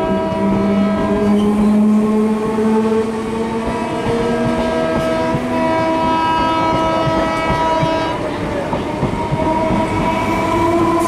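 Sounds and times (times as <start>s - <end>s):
train air horn blast: 0.0s - 3.1s, 3.9s - 8.7s, 9.3s - 11.0s
train rumbling on rails: 0.0s - 11.0s.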